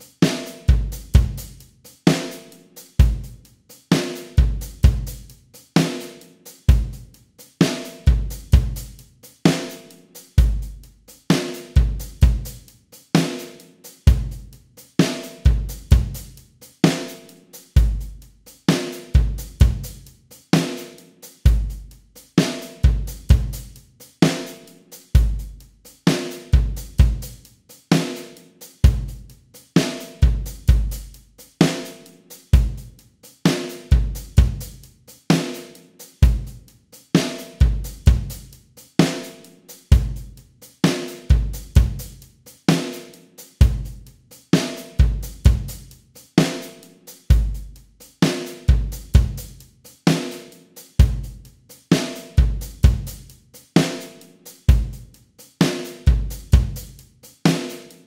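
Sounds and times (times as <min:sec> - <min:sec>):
hi-hat and cymbal strokes: 0:00.0 - 0:58.0.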